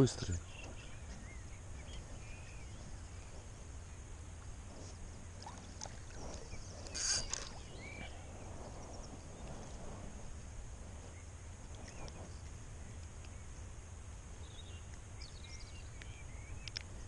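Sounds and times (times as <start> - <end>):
faint bird chirping: 0.0 - 10.0, 11.0 - 13.8, 14.4 - 16.8.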